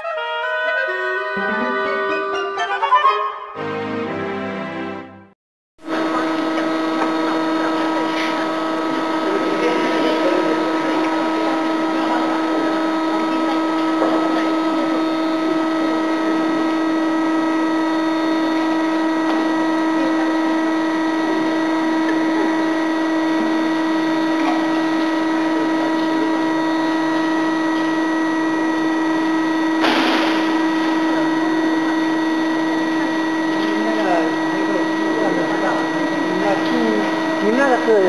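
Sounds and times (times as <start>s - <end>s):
motor humming and whining: 5.8s - 38.0s.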